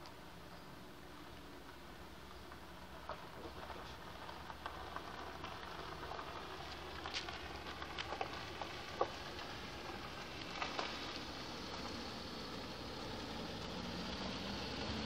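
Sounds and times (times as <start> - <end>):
tyres crackling over gravel: 0.0 - 15.0.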